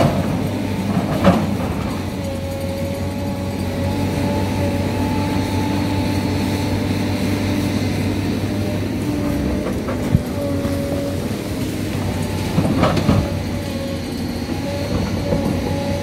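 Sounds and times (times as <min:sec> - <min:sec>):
excavator diesel engine: 0:00.0 - 0:16.0
hydraulic whining tones: 0:00.0 - 0:16.0.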